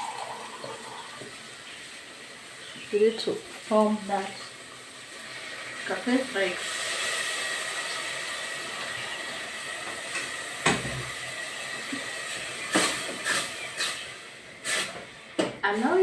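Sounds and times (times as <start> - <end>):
paste sizzling in a hot pan: 0.0 - 16.0.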